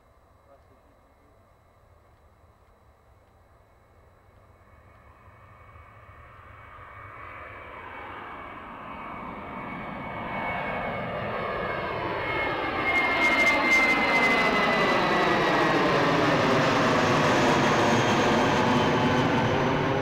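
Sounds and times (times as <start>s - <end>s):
jet engines at take-off power: 0.2s - 20.0s.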